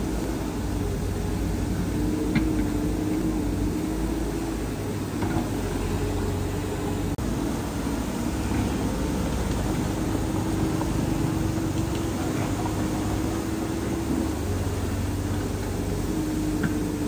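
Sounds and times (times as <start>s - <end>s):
heavy machinery engine droning: 0.0s - 17.0s.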